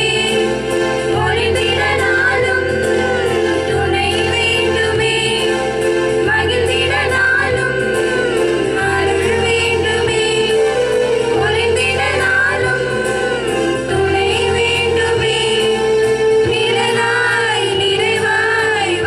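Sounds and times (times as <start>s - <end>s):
women singing into microphones: 0.0s - 19.0s.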